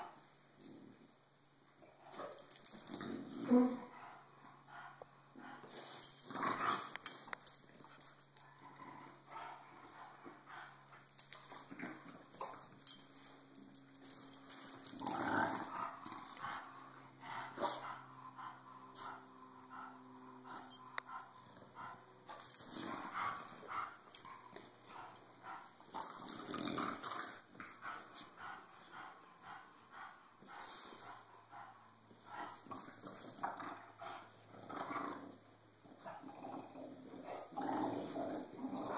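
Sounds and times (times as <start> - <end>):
dogs growling: 2.2 - 38.9.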